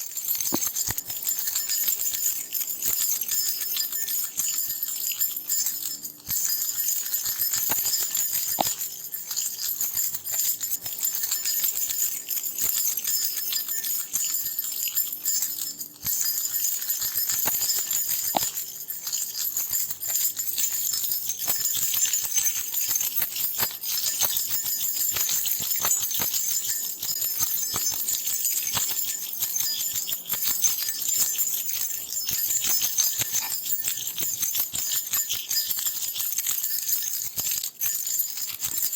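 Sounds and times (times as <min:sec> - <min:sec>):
metal keys jingling: 0:00.0 - 0:38.9.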